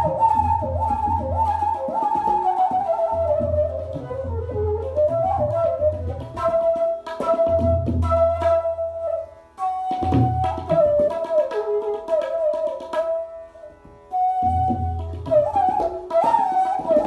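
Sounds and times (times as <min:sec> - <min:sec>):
tabla drumming: 0:00.0 - 0:13.4, 0:14.1 - 0:17.0
bamboo flute melody: 0:00.0 - 0:17.0.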